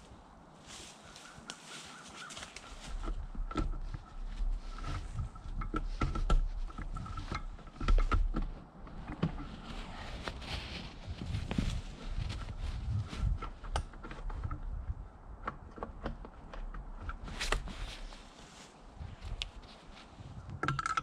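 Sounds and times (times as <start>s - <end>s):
camping gear rustling: 0.0s - 21.0s.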